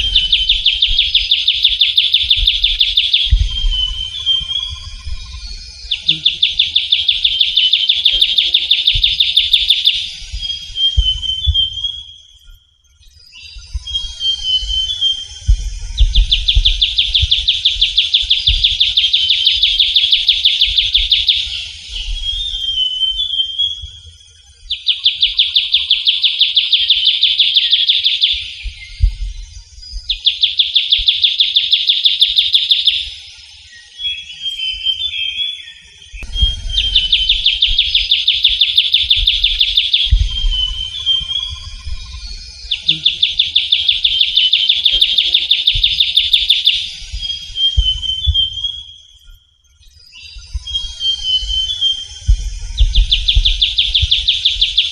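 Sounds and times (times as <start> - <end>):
bird trilling: 0.0 - 12.3, 13.3 - 23.8, 24.7 - 29.3, 36.2 - 49.1, 50.1 - 54.9
bird twittering: 0.0 - 24.0, 24.7 - 54.9.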